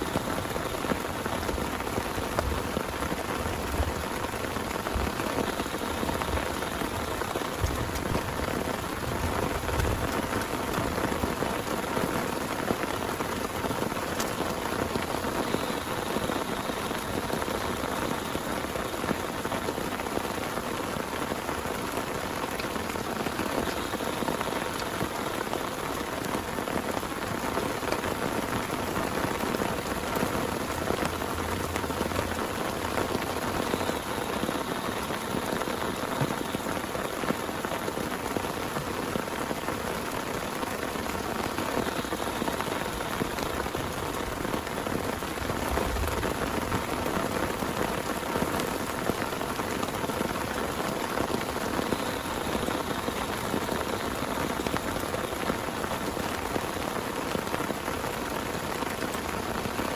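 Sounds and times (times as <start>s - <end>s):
heavy rain falling: 0.0s - 59.9s
sharp raindrop hits: 0.0s - 59.9s.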